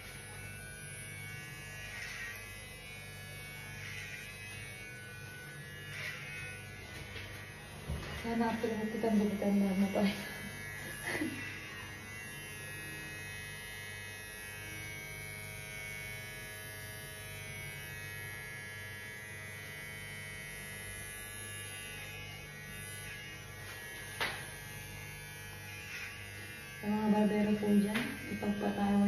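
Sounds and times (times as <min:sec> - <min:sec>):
electric hair clippers buzzing: 0:00.0 - 0:29.0.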